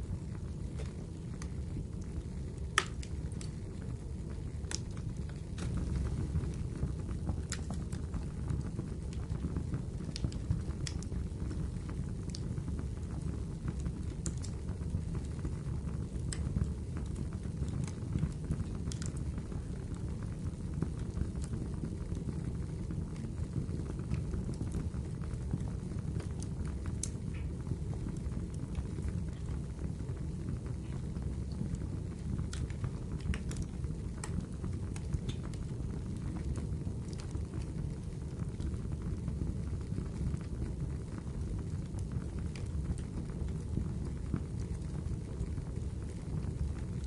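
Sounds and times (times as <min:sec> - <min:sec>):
fire crackling: 0:00.0 - 0:47.0.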